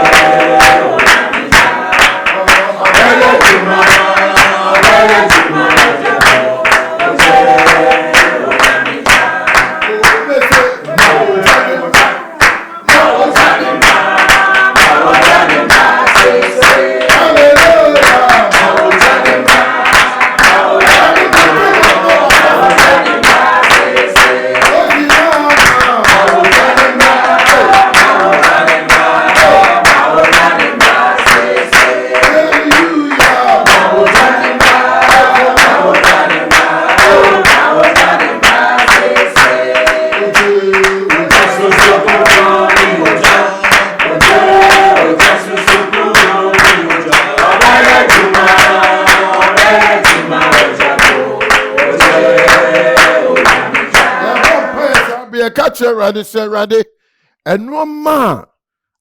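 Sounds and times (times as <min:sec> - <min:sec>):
fast clapped beat: 0:00.0 - 0:55.2
voices singing together: 0:00.0 - 0:55.3.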